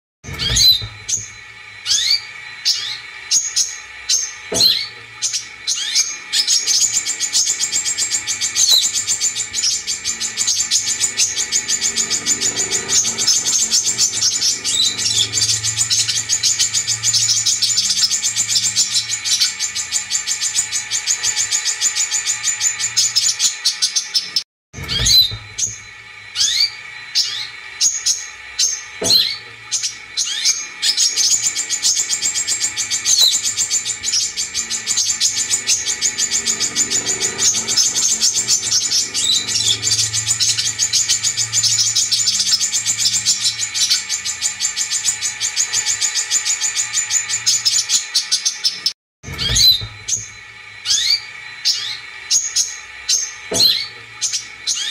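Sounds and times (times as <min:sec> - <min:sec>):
rapid high bird trill: 0:00.3 - 0:54.9
sharp high bird chirps: 0:00.3 - 0:54.9.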